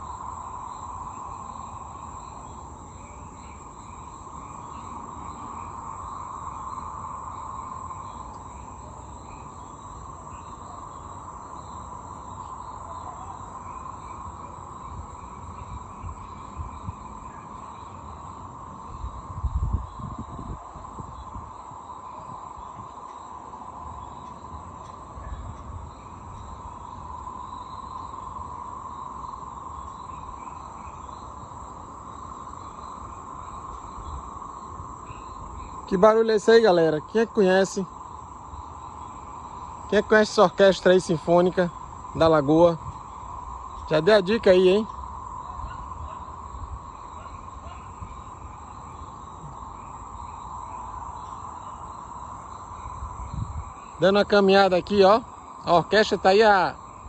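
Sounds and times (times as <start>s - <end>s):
chorus of frogs trilling: 0.0s - 57.0s.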